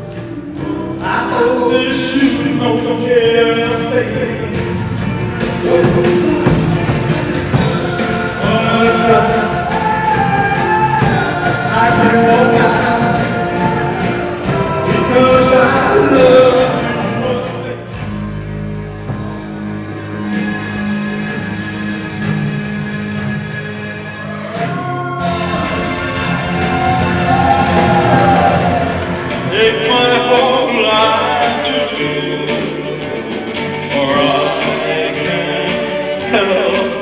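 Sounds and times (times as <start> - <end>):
live rock and roll band: 0.0 - 37.0
person singing: 0.6 - 4.8, 5.5 - 18.0, 23.6 - 37.0.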